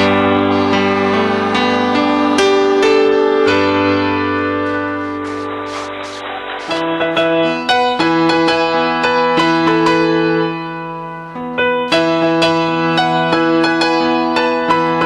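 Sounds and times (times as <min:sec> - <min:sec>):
keyboard melody over chords: 0:00.0 - 0:15.0.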